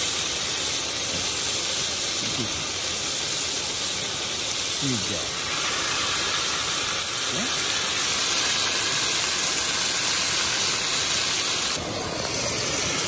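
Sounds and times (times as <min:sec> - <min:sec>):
meat sizzling in a grill pan: 0:00.0 - 0:13.0.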